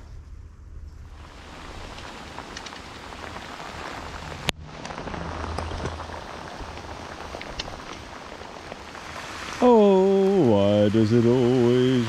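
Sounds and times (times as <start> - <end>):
steady rain on a river: 1.1 - 12.0.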